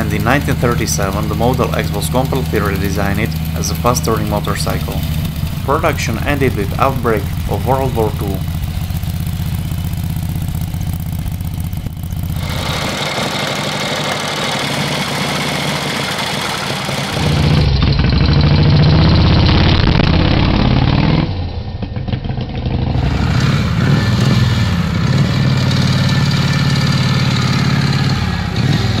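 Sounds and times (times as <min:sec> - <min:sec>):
motorcycle engines running: 0:00.0 - 0:29.0.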